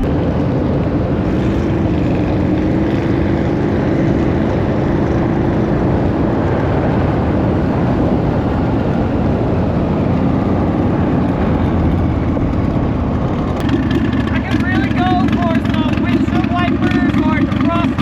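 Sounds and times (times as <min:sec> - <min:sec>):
car engine running: 0:00.0 - 0:18.0
road and wind noise: 0:00.0 - 0:18.0.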